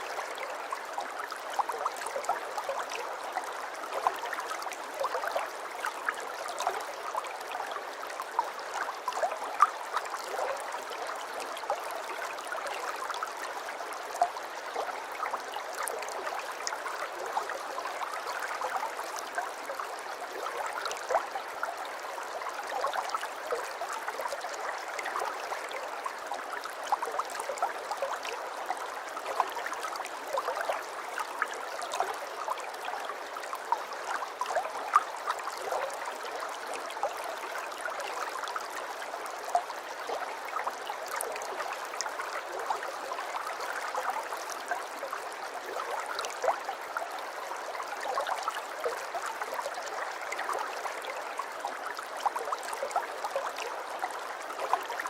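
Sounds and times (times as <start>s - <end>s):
aquarium water trickling and bubbling: 0.0s - 55.0s.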